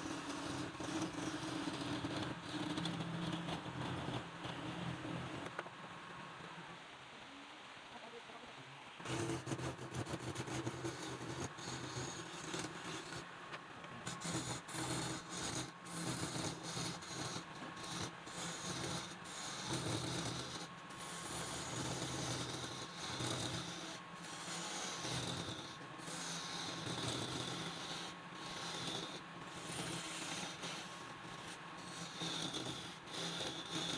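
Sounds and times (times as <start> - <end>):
turning tool scraping wood: 0.0 - 5.5, 9.0 - 13.3, 13.9 - 33.9
lathe motor hum: 0.0 - 5.6, 9.0 - 13.3, 14.0 - 33.9.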